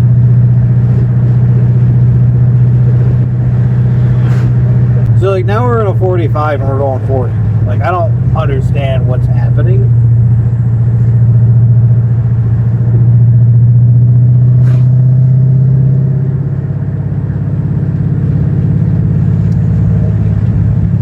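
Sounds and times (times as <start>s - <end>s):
car engine and tyres droning: 0.0s - 21.0s.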